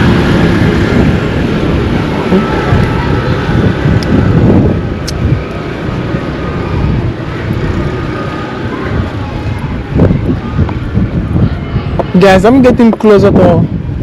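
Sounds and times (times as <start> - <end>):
road traffic: 0.0 - 14.0
wind buffeting microphone: 0.0 - 14.0.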